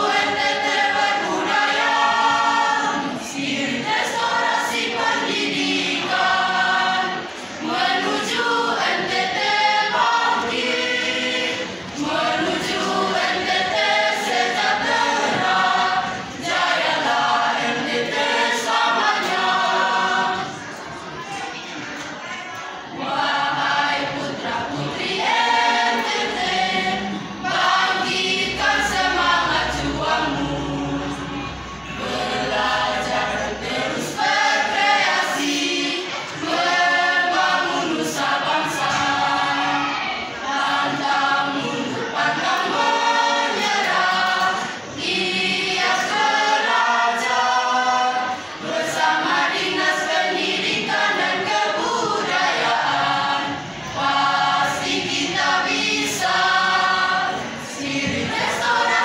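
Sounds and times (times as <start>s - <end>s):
choir singing a march: 0.0s - 21.1s, 22.8s - 59.0s.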